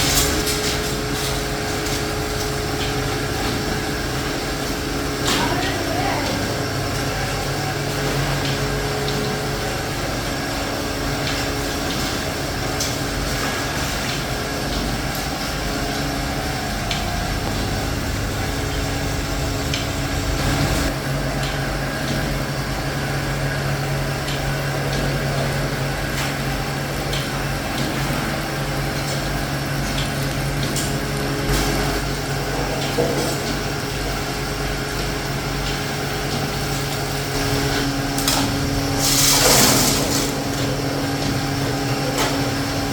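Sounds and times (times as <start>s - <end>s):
factory machinery humming: 0.0s - 42.9s.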